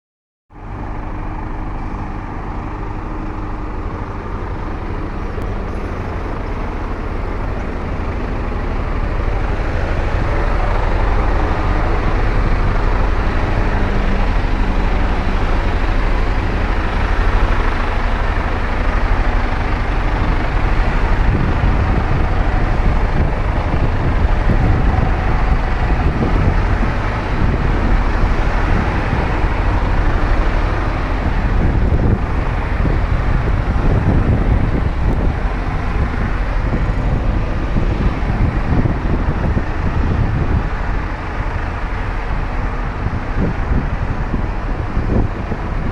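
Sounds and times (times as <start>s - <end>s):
truck engine rumbling: 0.5s - 45.9s.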